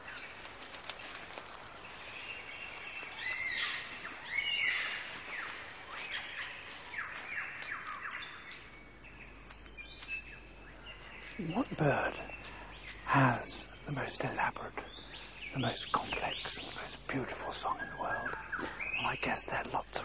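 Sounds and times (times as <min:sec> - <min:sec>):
downward-sweeping bird calls: 0:00.0 - 0:20.0
birds whistling and chirping: 0:02.2 - 0:20.0.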